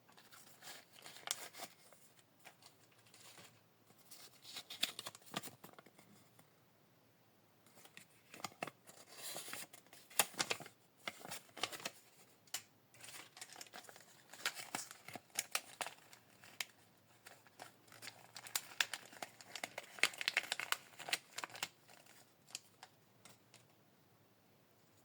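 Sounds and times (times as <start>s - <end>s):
plastic wrapper crinkling: 0.1s - 6.0s, 7.8s - 23.7s.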